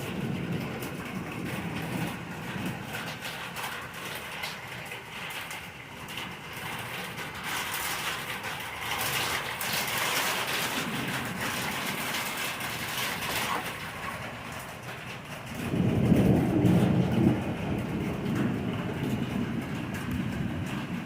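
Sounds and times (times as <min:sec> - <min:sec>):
low thunder rumble: 0:00.0 - 0:21.0
rain falling steadily: 0:00.0 - 0:21.0.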